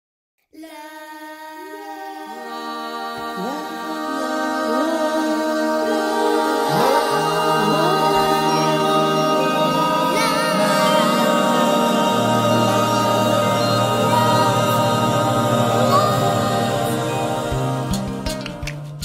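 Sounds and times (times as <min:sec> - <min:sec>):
a cappella choir holding notes: 0:00.6 - 0:19.0.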